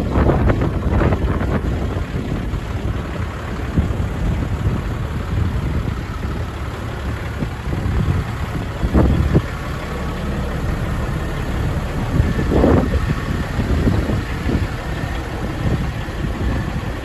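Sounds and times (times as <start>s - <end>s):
diesel truck engine idling: 0.0s - 17.0s
wind buffeting microphone: 0.0s - 17.0s.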